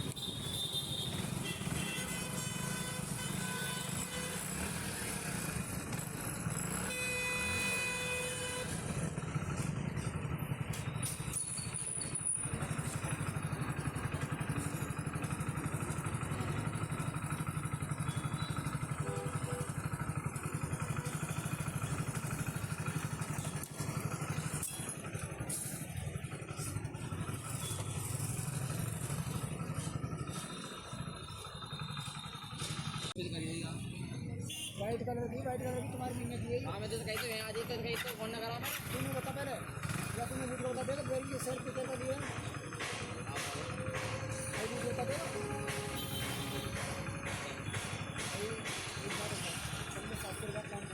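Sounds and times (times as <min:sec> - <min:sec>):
motorcycle engine running: 0:00.1 - 0:50.9.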